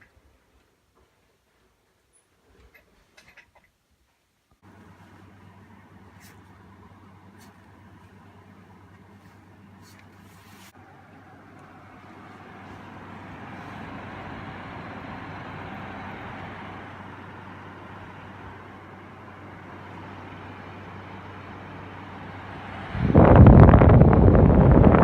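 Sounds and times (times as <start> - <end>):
air conditioner blowing air: 4.6 - 25.0.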